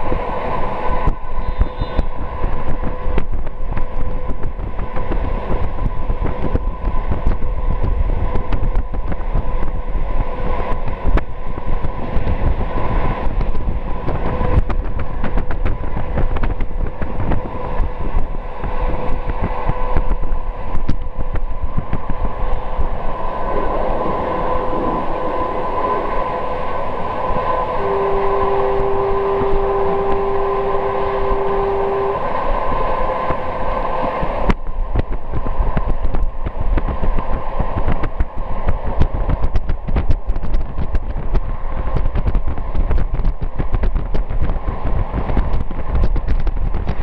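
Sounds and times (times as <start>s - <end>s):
constant hum: 0.0s - 47.0s
train wheels rumbling on rail: 0.0s - 47.0s.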